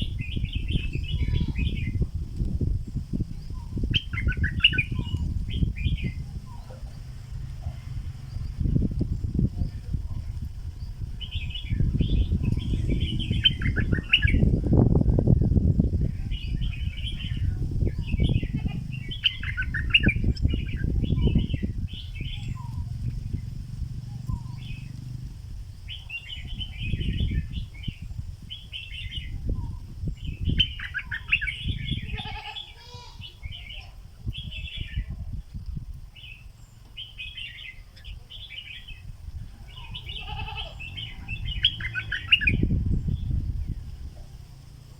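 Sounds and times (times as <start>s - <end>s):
bird singing bubbly phrases: 0.0s - 2.1s, 2.8s - 14.6s, 15.4s - 35.2s, 36.2s - 44.0s
low rumbling noise: 0.0s - 44.9s.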